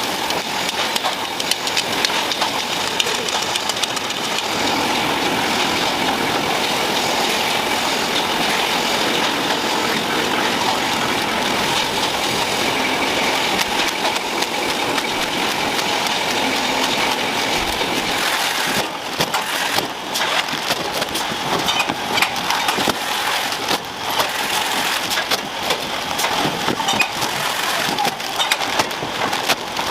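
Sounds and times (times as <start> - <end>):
factory machinery running: 0.0 - 29.9
machinery clattering and clicking: 0.0 - 29.9.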